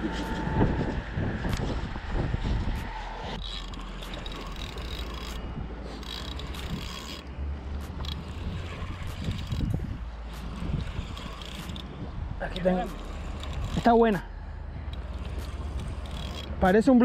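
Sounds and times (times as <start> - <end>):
low rumble: 0.0 - 16.6
fishing reel clicking and whirring: 2.8 - 17.0.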